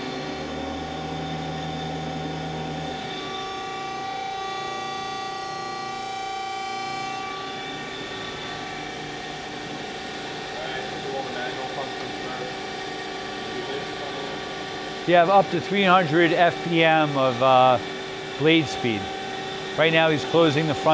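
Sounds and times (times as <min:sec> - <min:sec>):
band saw machine hum: 0:00.0 - 0:20.9
machine whining tones: 0:00.0 - 0:20.9.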